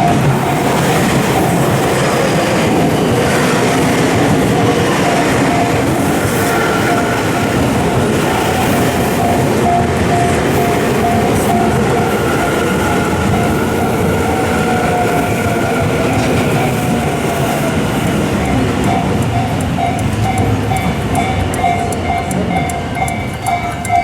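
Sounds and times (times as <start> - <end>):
crossing alarm ringing: 0.0 - 24.0
train rumbling past: 0.0 - 24.0.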